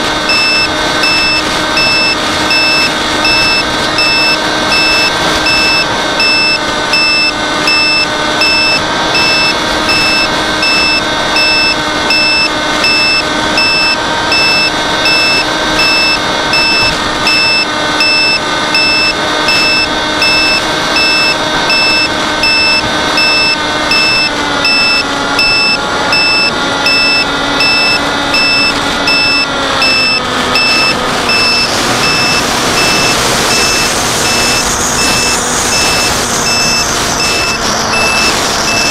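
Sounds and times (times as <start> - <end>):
fast electronic beeping: 0.0 - 38.9
high motor whine: 0.0 - 38.9.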